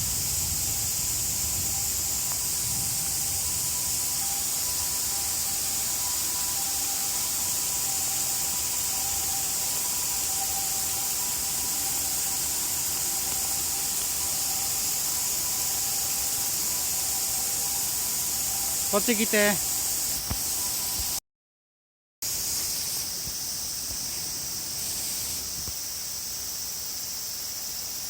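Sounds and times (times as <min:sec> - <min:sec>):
heavy rain hissing: 0:00.0 - 0:21.2, 0:22.2 - 0:25.7.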